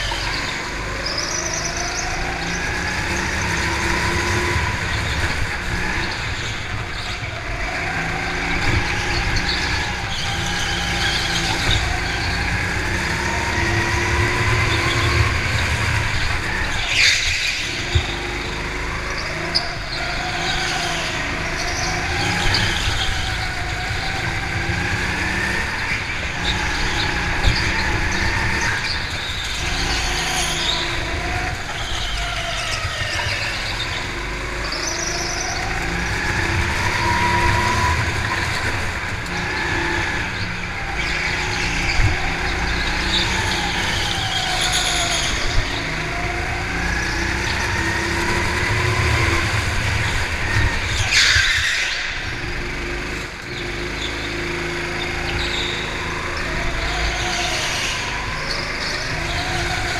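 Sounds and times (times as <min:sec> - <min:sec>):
go-kart engine revving: 0:00.0 - 0:59.9
tyre squeals: 0:00.0 - 0:59.9.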